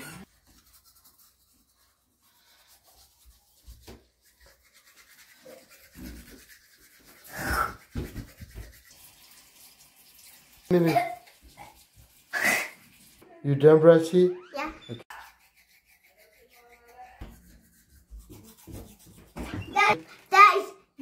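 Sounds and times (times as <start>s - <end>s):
toothbrush scrubbing teeth: 0.0s - 13.2s, 14.8s - 20.4s.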